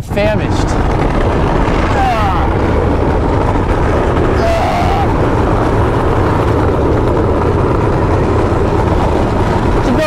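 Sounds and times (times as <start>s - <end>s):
truck engine running: 0.0s - 10.0s
wheels rolling on asphalt: 0.1s - 10.0s.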